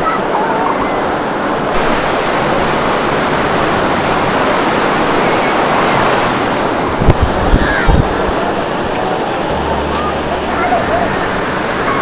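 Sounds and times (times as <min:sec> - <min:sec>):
sea surf breaking on beach: 0:00.0 - 0:12.0.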